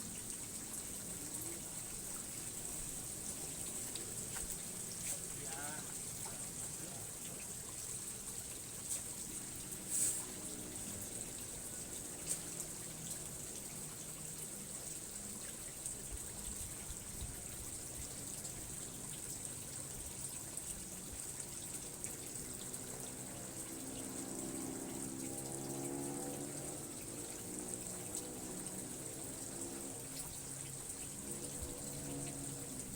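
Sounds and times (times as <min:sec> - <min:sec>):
water trickling: 0:00.0 - 0:32.9.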